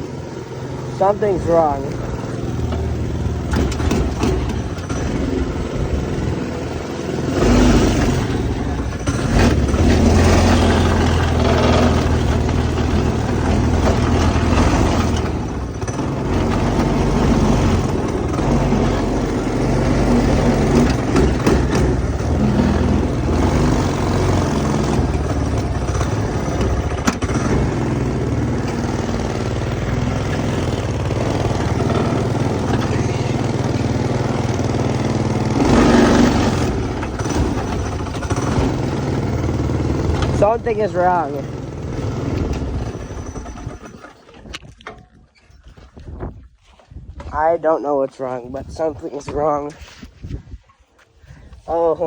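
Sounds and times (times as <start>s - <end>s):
go-kart engine revving unevenly: 0.0s - 45.0s.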